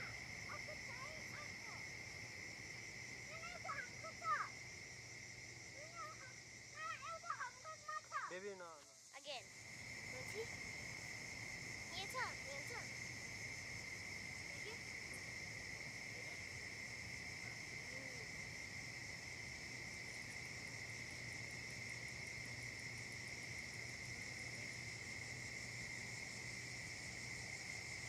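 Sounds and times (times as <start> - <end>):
crickets trilling: 0.0 - 28.0
fast pulsing insect trill: 0.0 - 28.0.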